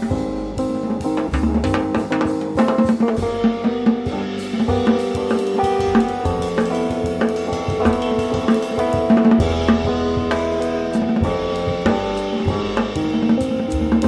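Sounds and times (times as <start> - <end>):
drum kit on cymbals and snare: 0.0 - 14.0
upright bass: 0.0 - 14.0.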